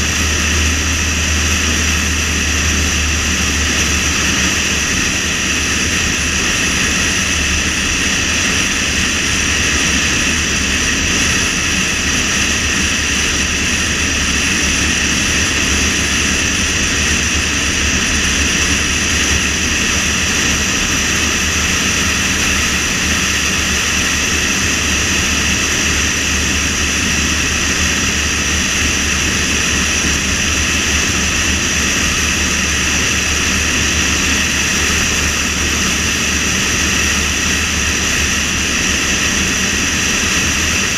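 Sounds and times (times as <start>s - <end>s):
car road and wind noise: 0.0s - 40.9s.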